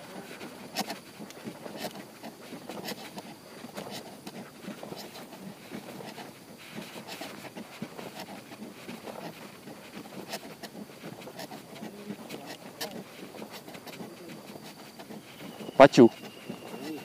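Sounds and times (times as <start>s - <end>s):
footsteps on concrete: 0.0s - 17.0s
light rustling: 0.0s - 17.0s.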